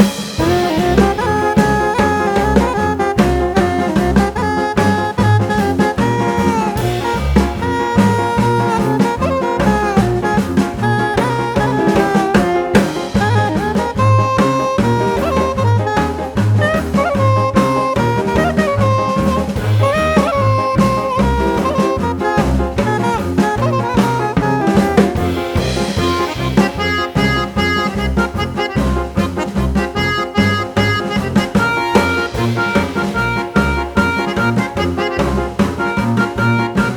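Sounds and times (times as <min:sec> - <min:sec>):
drum kit: 0:00.0 - 0:36.9
saxophone melody: 0:00.0 - 0:36.9
walking bass: 0:00.0 - 0:36.9.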